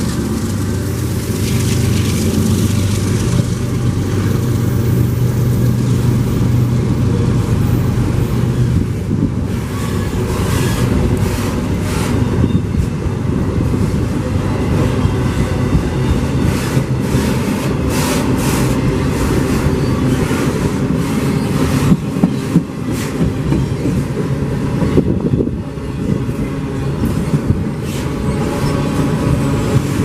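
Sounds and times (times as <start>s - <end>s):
wheels clacking over rail joints: 0.0s - 13.0s, 14.5s - 30.0s
freight train rumbling past: 0.0s - 30.0s.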